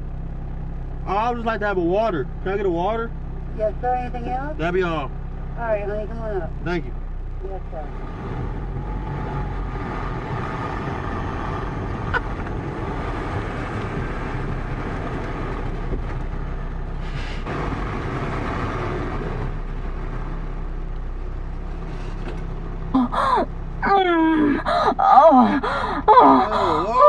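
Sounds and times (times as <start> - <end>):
car engine and road hum: 0.0 - 27.0.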